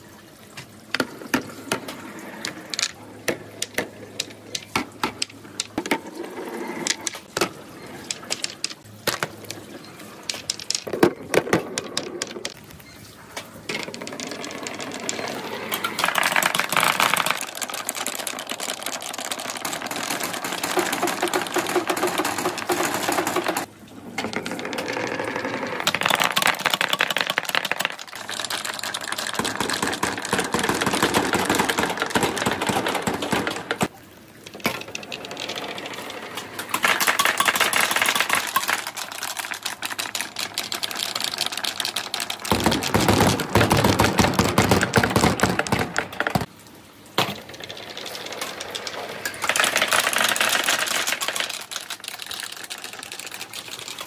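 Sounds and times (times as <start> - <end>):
balls clattering down marble run: 0.6 - 46.5, 47.1 - 54.0.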